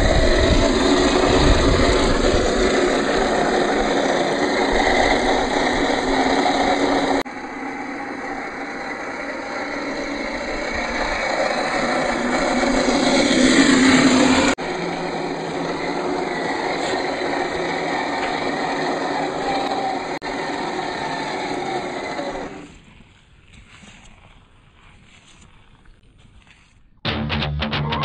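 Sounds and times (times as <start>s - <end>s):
electric motor whine: 0.0s - 22.8s
tyres on dirt: 0.0s - 27.0s.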